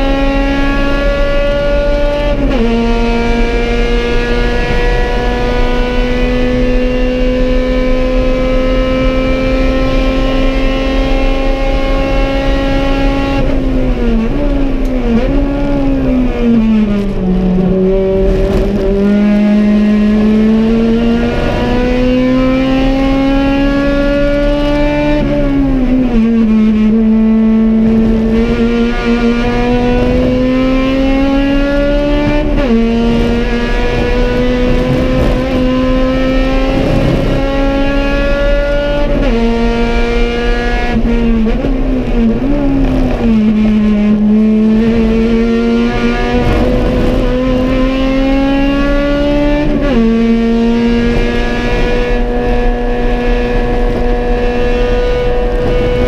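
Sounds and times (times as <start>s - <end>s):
race car engine revving and shifting: 0.0s - 56.0s.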